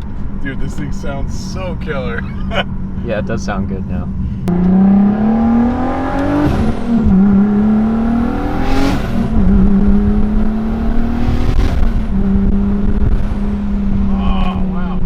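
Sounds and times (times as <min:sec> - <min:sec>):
turbo engine accelerating: 0:00.0 - 0:15.0.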